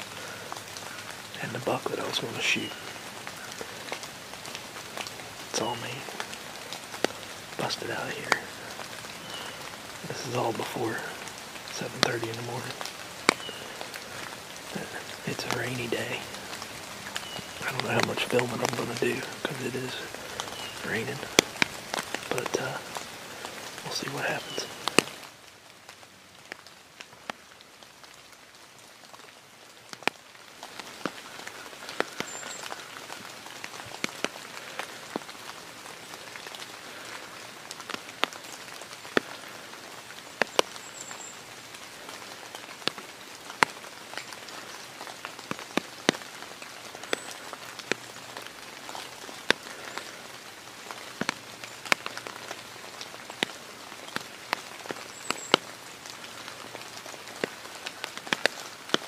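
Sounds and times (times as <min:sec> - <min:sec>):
rain falling through woods: 0:00.0 - 0:59.0
raindrops ticking nearby: 0:00.0 - 0:59.0.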